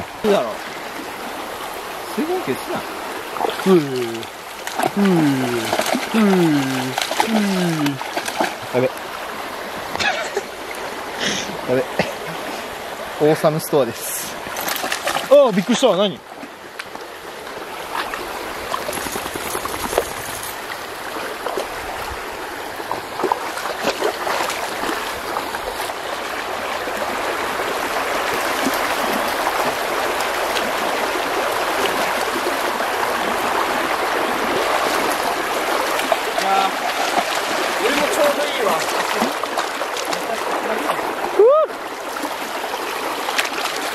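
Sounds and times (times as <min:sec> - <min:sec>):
river rushing over stones: 0:00.0 - 0:43.9
feet splashing through water: 0:02.9 - 0:11.6, 0:14.4 - 0:15.8, 0:17.8 - 0:43.9.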